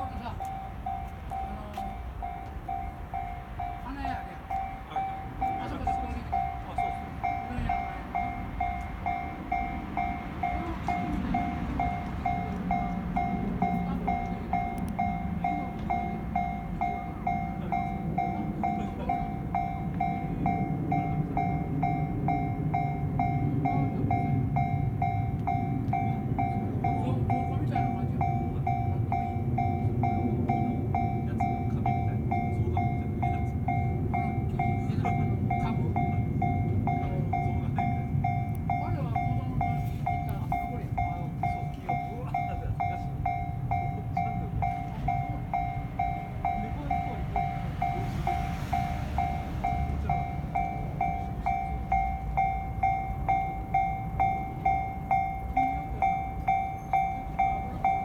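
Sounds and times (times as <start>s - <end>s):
level crossing warning bell: 0.0s - 58.0s
train rumbling past: 0.0s - 58.0s.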